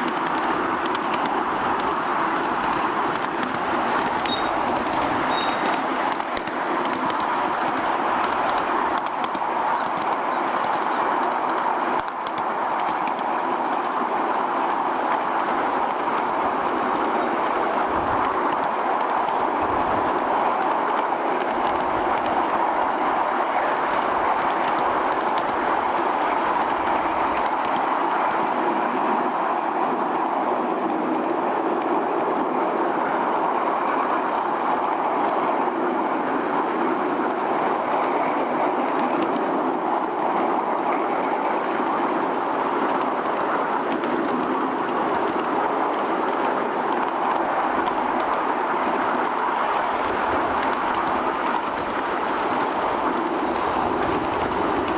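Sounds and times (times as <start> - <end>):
miniature train rolling on track: 0.0 - 54.9.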